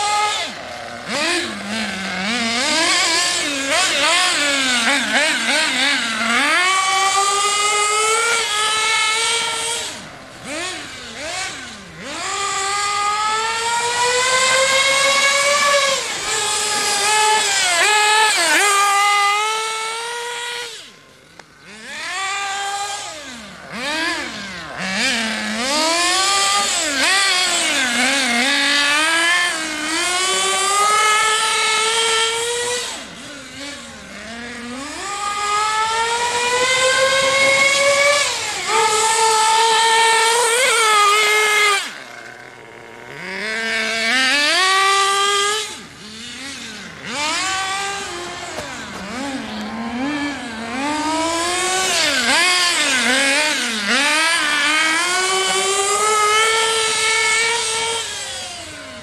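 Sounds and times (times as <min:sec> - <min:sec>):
model car engine revving: 0:00.0 - 0:59.0.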